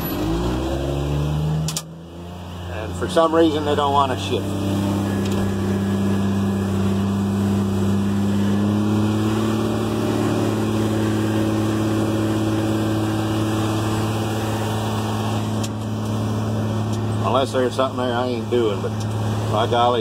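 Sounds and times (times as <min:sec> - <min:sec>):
diesel engine at high revs: 0:00.0 - 0:20.0.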